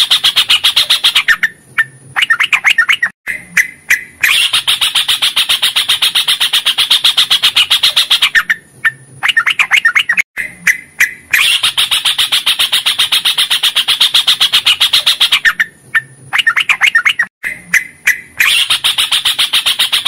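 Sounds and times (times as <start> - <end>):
bird chattering trill: 0.0 - 20.0.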